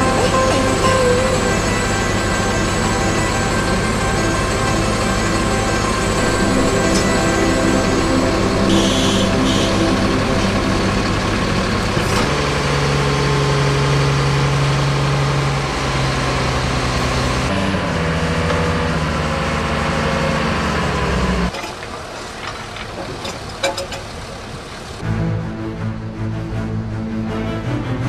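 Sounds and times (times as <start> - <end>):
crane diesel engine running: 0.0 - 27.3.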